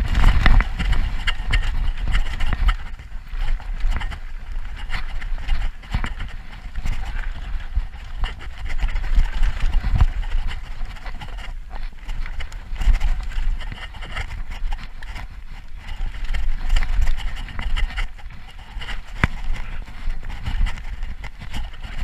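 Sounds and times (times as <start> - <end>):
bike knocking and rattling: 0.0 - 22.0
wind rumble on microphone: 0.0 - 22.0.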